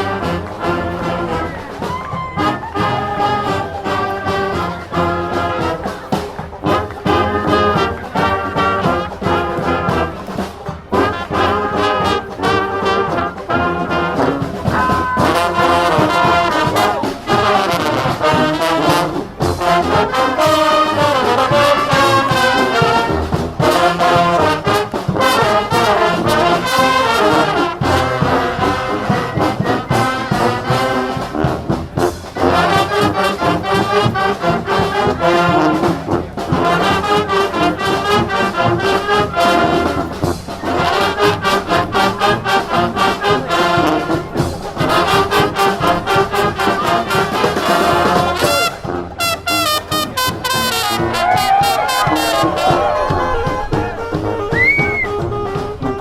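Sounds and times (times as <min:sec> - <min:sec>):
marching drums beating: 0:00.0 - 0:56.0
trombones and trumpets playing melody: 0:00.0 - 0:56.0.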